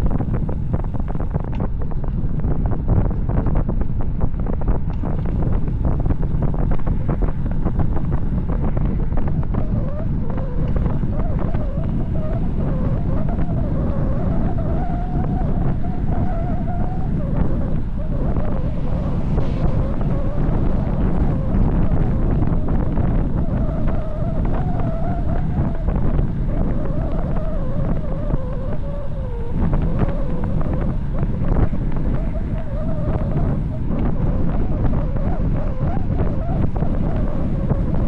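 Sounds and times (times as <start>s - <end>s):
wavering whine: 0.0s - 38.0s
wind buffeting microphone: 0.0s - 38.0s.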